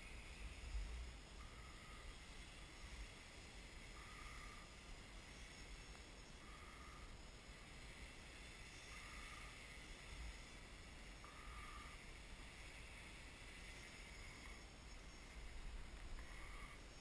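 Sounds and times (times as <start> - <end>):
distant drone motors humming: 0.0 - 17.0.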